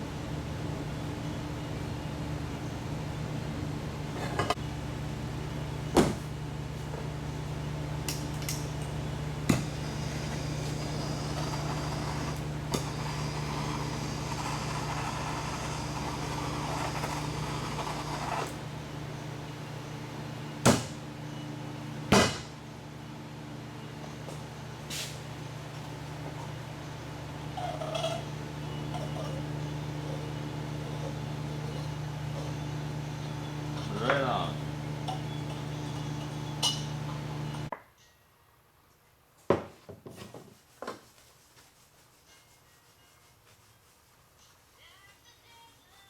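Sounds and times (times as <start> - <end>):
steady low hum: 0.0 - 37.7.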